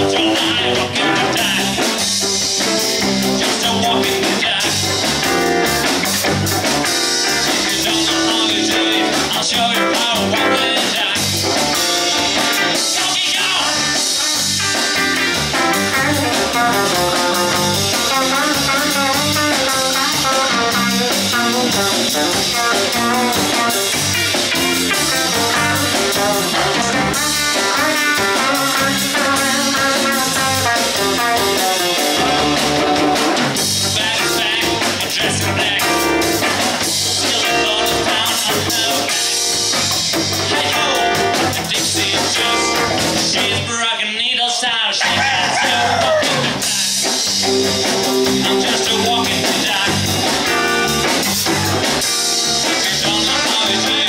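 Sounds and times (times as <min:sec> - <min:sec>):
live rock band playing: 0:00.0 - 0:44.3, 0:45.0 - 0:54.0.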